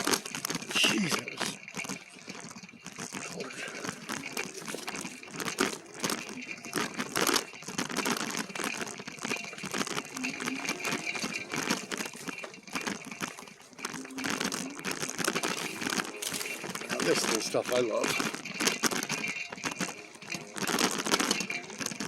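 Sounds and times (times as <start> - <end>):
dry leaves and twigs crackling: 0.0 - 22.0
twigs snapping: 0.0 - 22.0.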